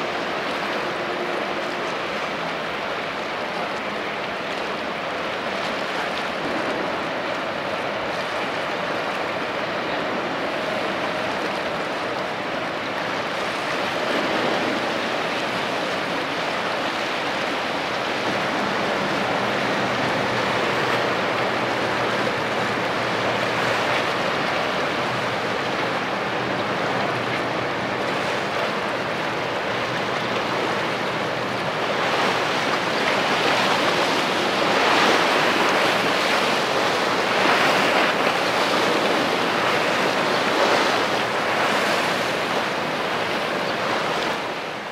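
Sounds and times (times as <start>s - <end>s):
sea water washing and splashing: 0.0s - 44.9s
wind buffeting microphone: 0.0s - 44.9s.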